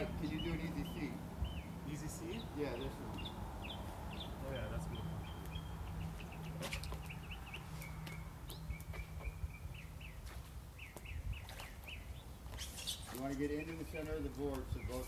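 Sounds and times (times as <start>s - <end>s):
small birds chirping and twittering: 0.0s - 15.0s.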